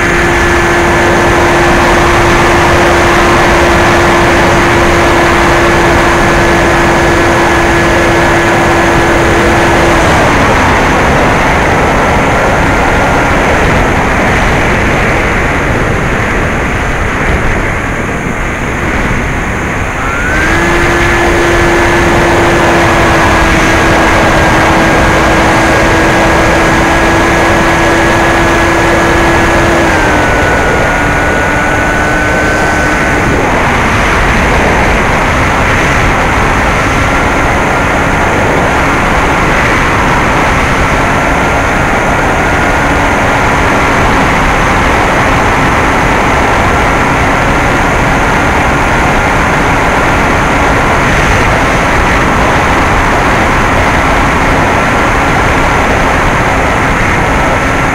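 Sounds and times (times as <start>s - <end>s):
electric motor whine: 0.0s - 57.9s
wind rush: 0.0s - 57.9s.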